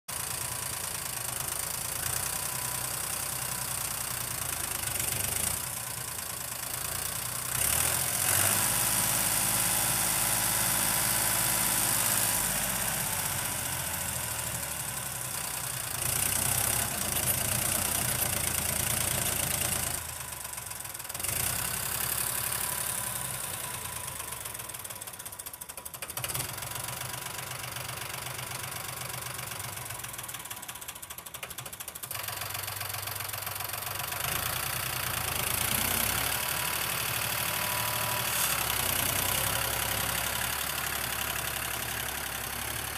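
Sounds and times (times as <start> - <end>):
tractor diesel engine running: 0.1 - 42.9.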